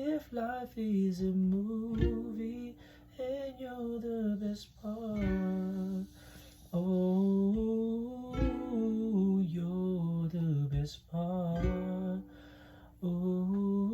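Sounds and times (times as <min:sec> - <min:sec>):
ukulele strumming: 0:00.0 - 0:13.9.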